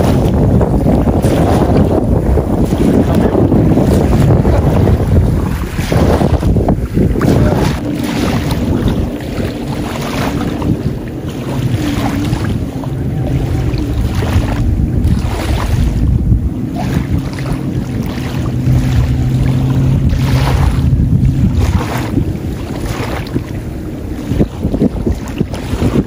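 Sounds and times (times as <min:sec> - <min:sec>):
low motor hum: 0:00.0 - 0:26.0
wind buffeting microphone: 0:00.0 - 0:26.0.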